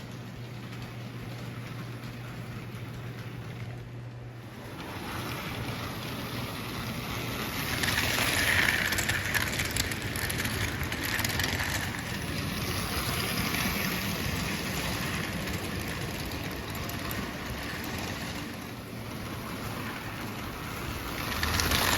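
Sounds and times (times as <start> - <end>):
toy train rolling on track: 0.0 - 21.9.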